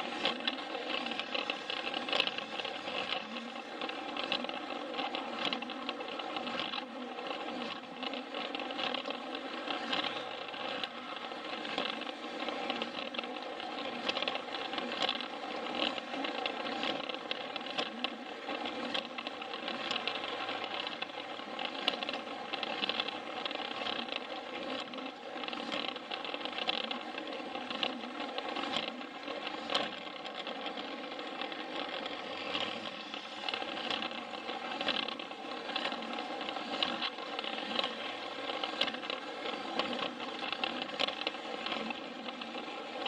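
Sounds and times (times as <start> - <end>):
toy train motor whir: 0.0 - 43.0.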